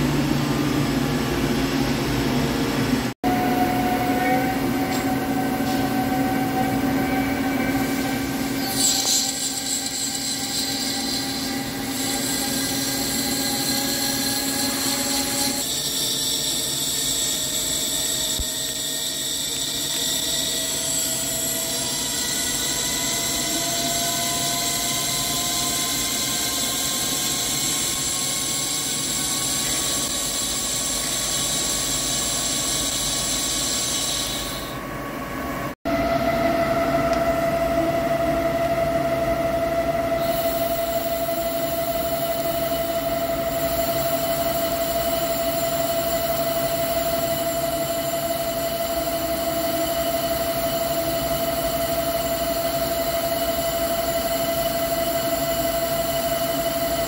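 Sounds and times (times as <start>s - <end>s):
lathe machining with high whine: 0.0s - 34.9s, 35.6s - 57.0s.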